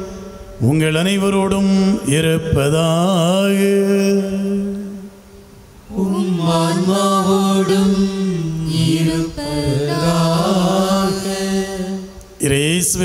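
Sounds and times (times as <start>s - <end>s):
slow liturgical chant: 0.0s - 13.0s.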